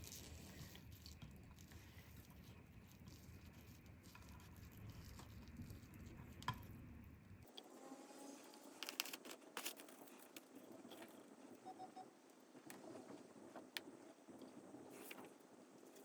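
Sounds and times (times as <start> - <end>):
faint room hum: 0.0 - 16.0.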